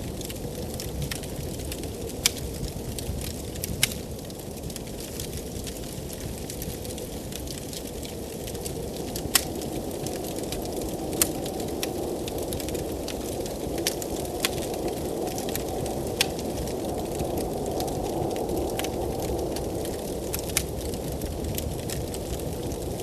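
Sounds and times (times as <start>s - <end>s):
blizzard wind rushing: 0.0s - 23.0s
wood fire crackling and popping: 0.0s - 23.0s.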